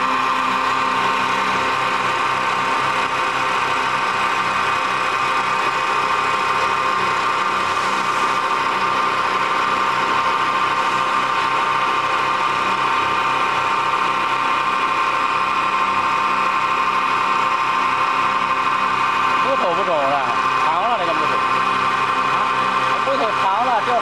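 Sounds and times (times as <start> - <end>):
high machine whine: 0.0 - 24.0
lathe machine drone: 0.0 - 24.0.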